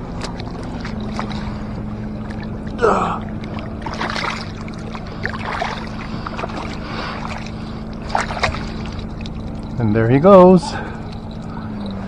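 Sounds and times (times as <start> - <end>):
water splashing around hand: 0.0 - 9.8.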